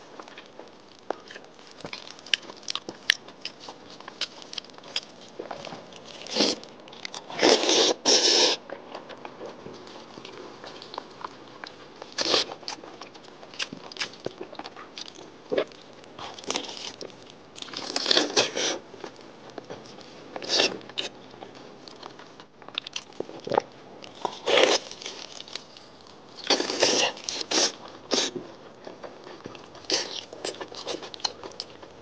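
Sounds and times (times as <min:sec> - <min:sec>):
wet chewing and biting: 0:00.2 - 0:09.6, 0:10.2 - 0:32.0.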